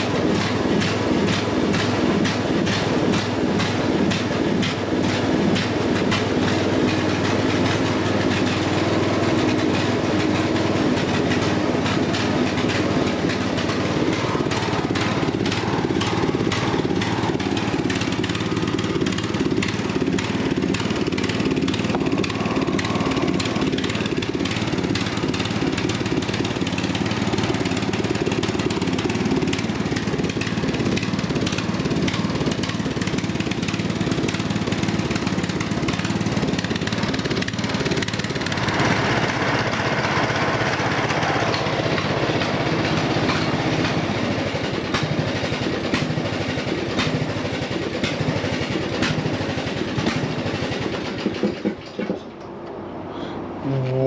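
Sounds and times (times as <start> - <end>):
riding mower engine idling: 0.0 - 54.0.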